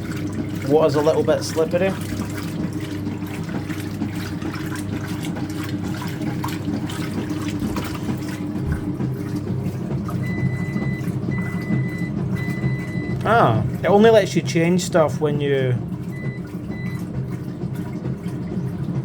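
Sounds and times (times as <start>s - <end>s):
washing machine motor hum: 0.0s - 19.0s
water sloshing in tub: 0.0s - 19.0s.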